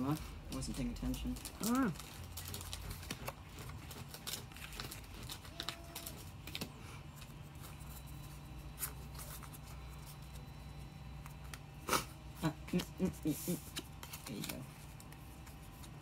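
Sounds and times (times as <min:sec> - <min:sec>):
trading cards being shuffled: 0:00.0 - 0:10.5, 0:11.2 - 0:16.0.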